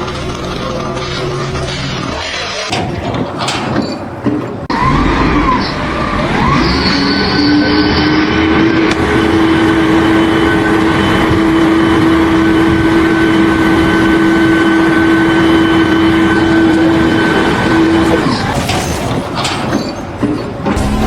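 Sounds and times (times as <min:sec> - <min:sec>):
machine whining and rumbling: 0:00.0 - 0:21.0.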